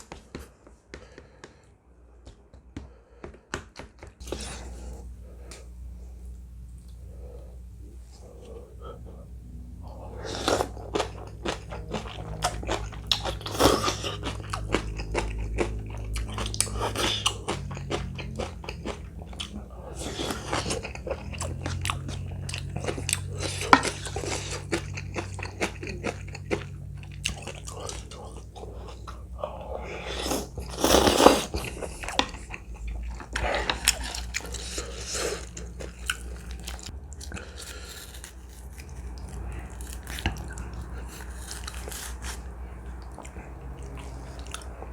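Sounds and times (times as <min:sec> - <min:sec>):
person chewing and crunching food: 0:04.2 - 0:44.9
steady low hum: 0:04.2 - 0:44.9.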